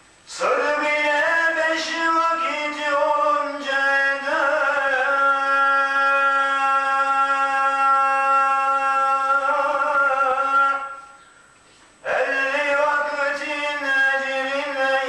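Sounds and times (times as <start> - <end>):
man chanting religious recitation: 0.3 - 11.2, 12.0 - 15.0.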